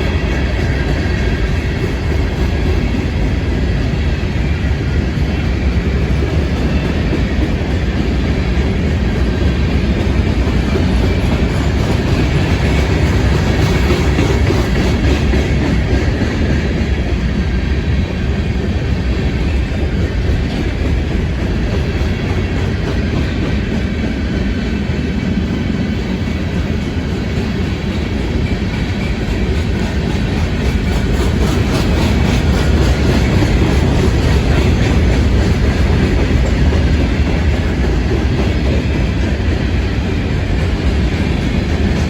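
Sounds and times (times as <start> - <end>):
freight train wheels rumbling: 0.0 - 42.0
wheels clickety-clack: 0.0 - 42.0.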